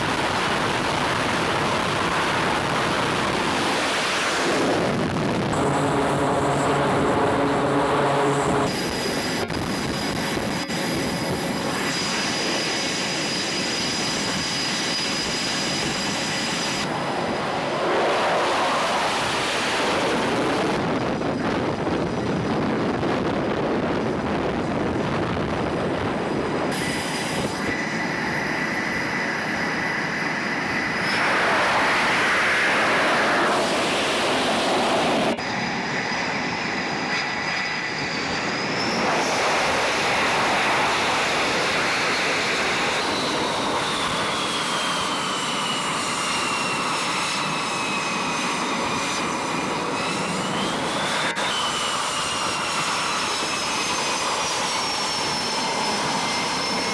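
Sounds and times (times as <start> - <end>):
high turbine whine: 0.0 - 56.9
jet engines roaring: 0.0 - 56.9.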